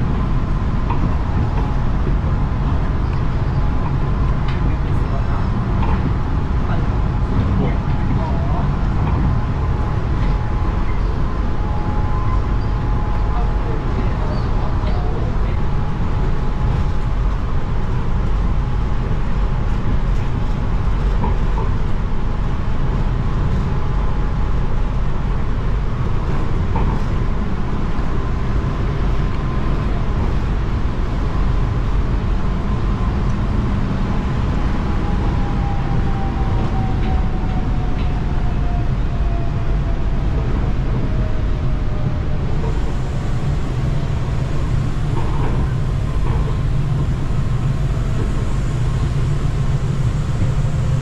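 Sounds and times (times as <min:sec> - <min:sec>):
monorail train rumble and whine: 0:00.0 - 0:51.0.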